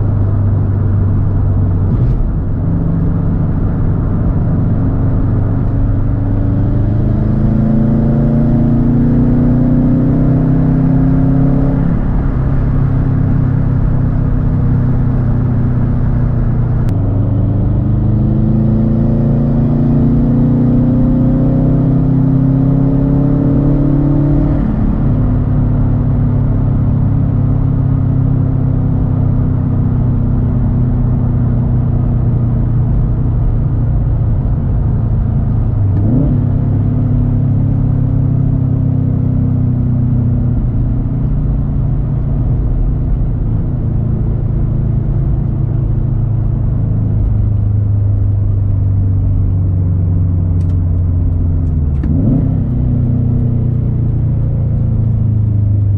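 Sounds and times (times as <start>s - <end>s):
loud car engine driving: 0.0s - 55.9s.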